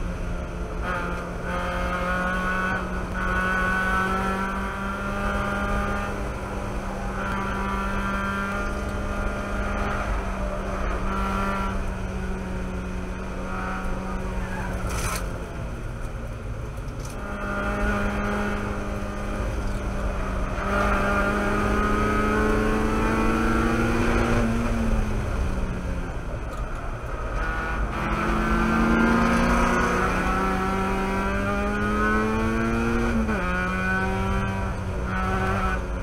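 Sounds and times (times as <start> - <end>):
race car engine revving: 0.0 - 15.6, 17.0 - 36.0.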